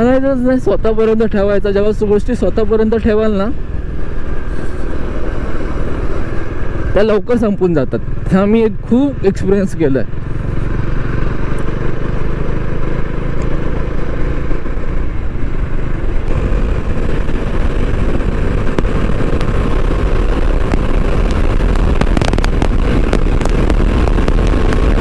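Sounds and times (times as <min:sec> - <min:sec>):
motorcycle engine running: 0:03.3 - 0:25.0.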